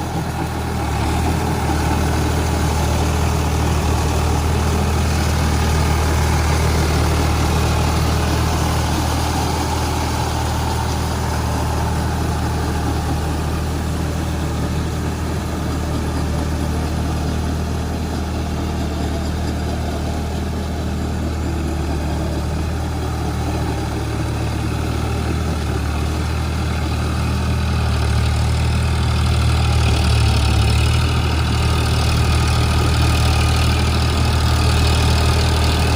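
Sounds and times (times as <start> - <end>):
tractor diesel engine droning: 0.0 - 35.9.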